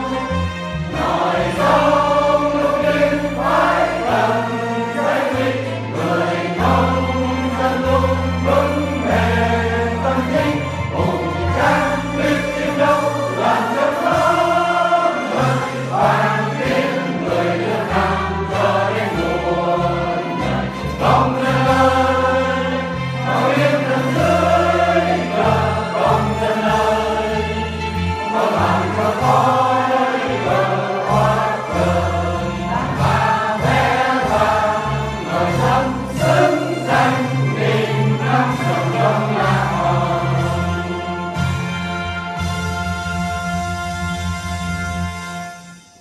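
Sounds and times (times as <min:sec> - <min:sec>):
choir singing: 0:00.0 - 0:43.1
instrumental accompaniment: 0:00.0 - 0:46.0.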